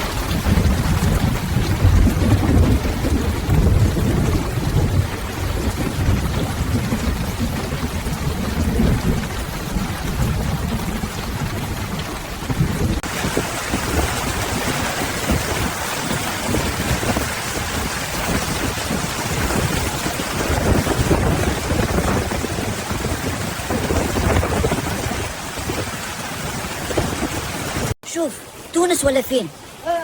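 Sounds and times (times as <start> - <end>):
low thunder rumbling: 0.0 - 27.9
heavy rain pouring: 0.0 - 30.0.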